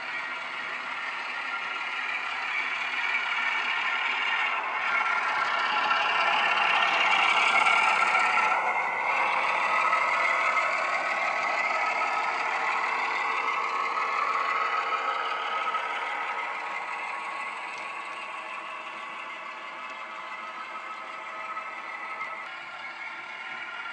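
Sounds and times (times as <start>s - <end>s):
diesel engine through small speaker: 0.0s - 23.9s.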